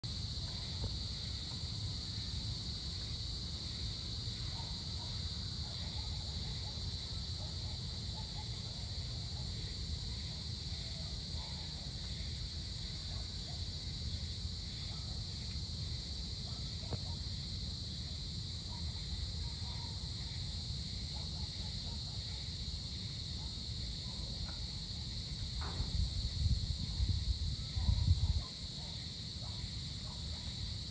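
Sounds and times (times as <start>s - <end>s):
insects trilling: 0.0s - 30.9s.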